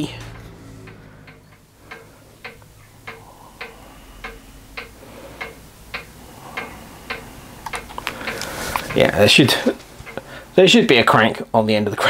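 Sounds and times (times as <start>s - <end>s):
mechanical ticking: 0.0s - 11.5s.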